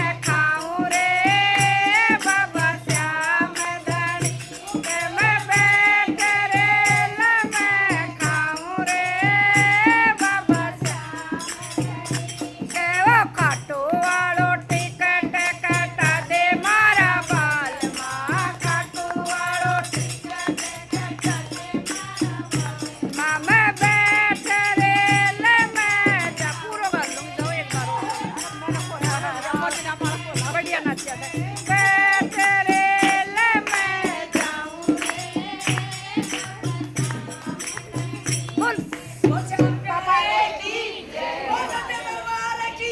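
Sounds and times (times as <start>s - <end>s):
rattling hand percussion: 0.0s - 40.1s
steady drum beat: 0.0s - 40.1s.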